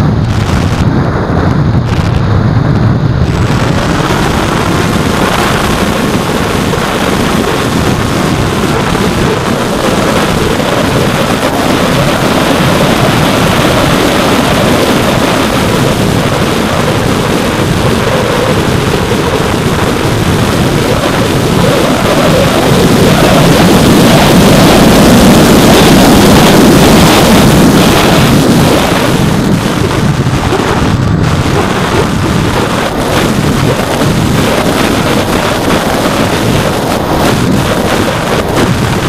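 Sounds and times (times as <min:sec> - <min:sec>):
airflow rushing over microphone: 0:00.0 - 0:39.0
electric motor and propeller: 0:00.0 - 0:39.0.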